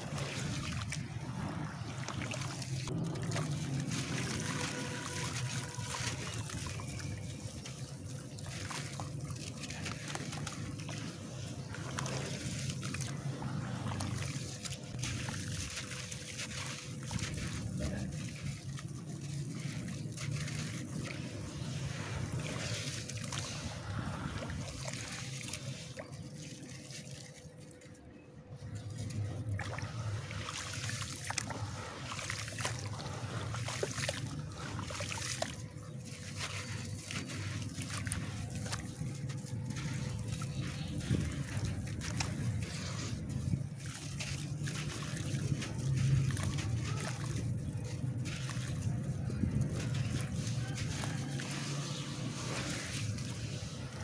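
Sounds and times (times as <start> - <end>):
hands sloshing wet mud: 0.0 - 54.0.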